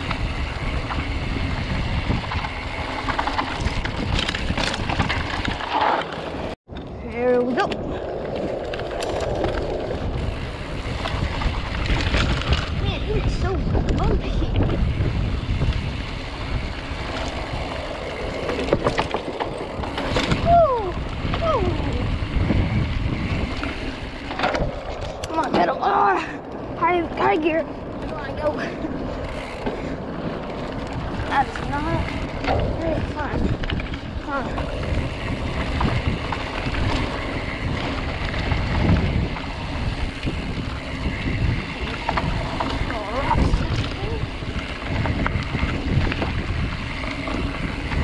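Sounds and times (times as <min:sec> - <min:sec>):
bike rattling over bumps: 0:00.0 - 0:48.0
wind rumbling on microphone: 0:00.0 - 0:48.0.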